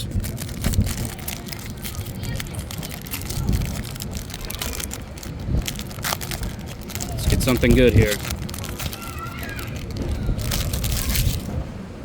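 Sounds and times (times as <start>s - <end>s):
foil wrapper crinkling and tearing: 0.0s - 11.6s
wind on microphone: 0.0s - 12.0s.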